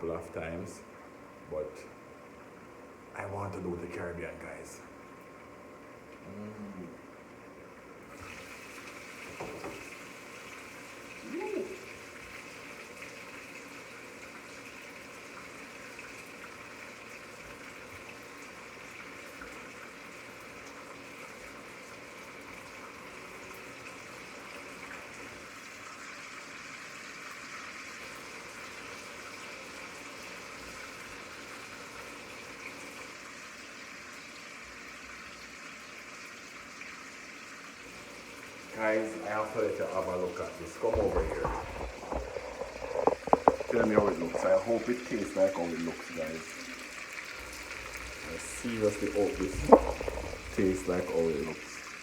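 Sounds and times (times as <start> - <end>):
food sizzling on stove: 8.0 - 52.0.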